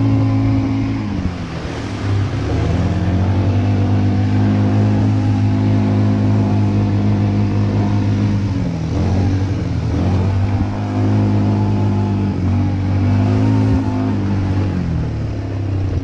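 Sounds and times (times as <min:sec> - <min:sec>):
quad bike engine revving: 0:00.0 - 0:16.0.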